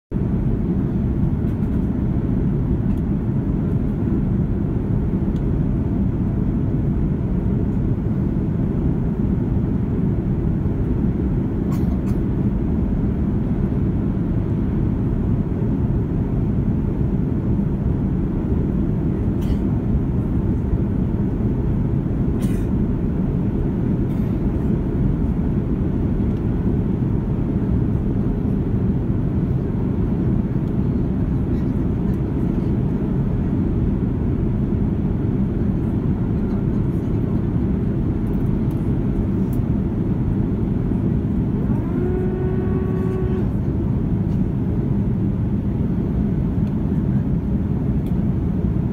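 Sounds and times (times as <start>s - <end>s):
airplane engines rumbling in cabin: 0.1s - 48.9s.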